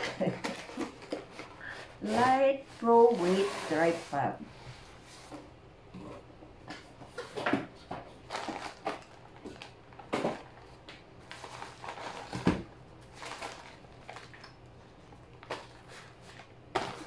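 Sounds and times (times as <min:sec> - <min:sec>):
packaging rustling and crackling: 0:00.0 - 0:04.1, 0:07.1 - 0:17.0.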